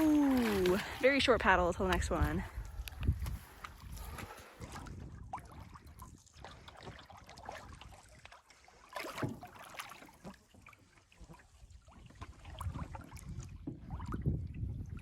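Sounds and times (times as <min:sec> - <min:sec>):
canoe paddles pulling through water: 0:00.0 - 0:15.0
water splashes and drips: 0:00.0 - 0:15.0.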